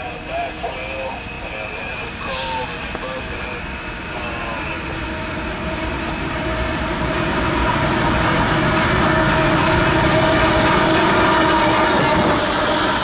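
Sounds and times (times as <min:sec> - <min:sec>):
diesel locomotive engines running: 0:00.0 - 0:13.0.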